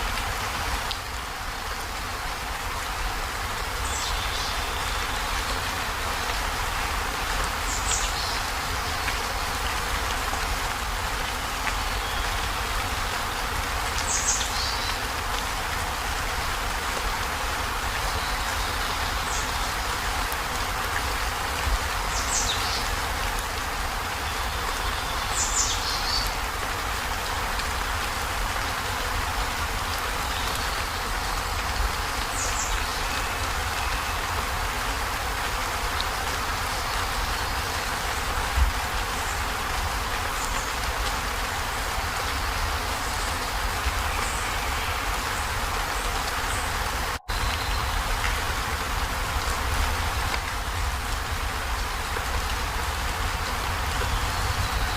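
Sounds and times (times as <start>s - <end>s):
heavy rain on a metal roof: 0.0s - 54.9s.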